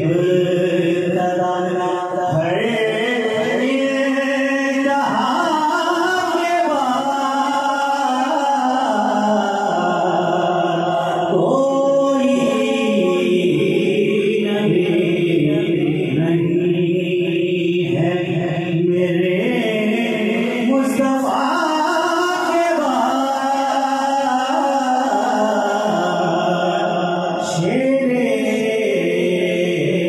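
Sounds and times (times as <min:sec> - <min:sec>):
man singing a cappella: 0:00.0 - 0:30.0.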